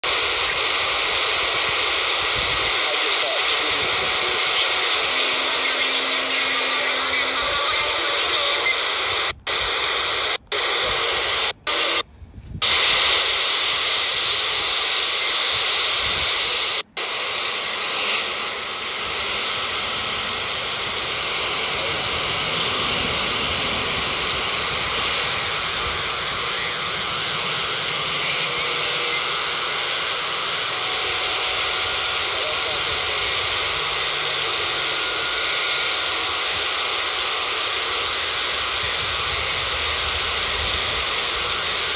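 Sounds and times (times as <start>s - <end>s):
harsh radio data hiss: 0.0s - 41.9s.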